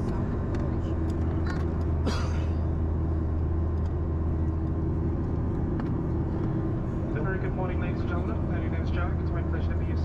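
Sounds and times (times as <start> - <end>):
jet engine drone: 0.0 - 10.0
steady hum: 0.0 - 10.0.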